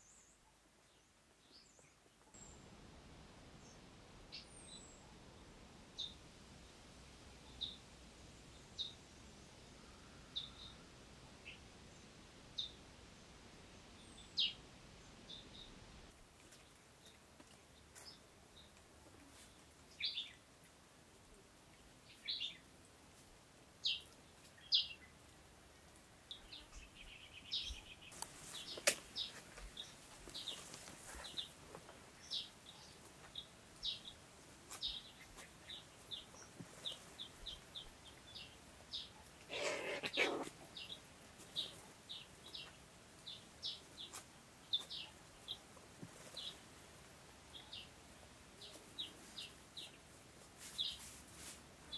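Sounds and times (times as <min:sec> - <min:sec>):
small birds chirping: 0:00.0 - 0:02.7, 0:03.6 - 0:13.1, 0:13.8 - 0:51.9.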